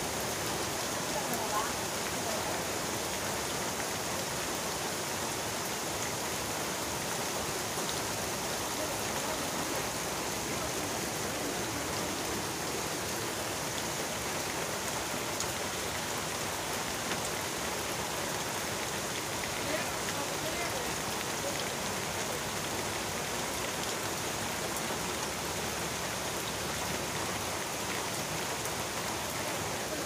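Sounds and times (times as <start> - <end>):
heavy rain on trees: 0.0 - 30.0.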